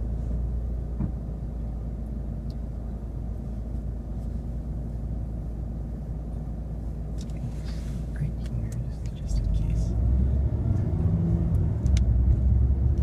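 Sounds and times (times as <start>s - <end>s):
car engine rumble and road noise: 0.0s - 13.0s.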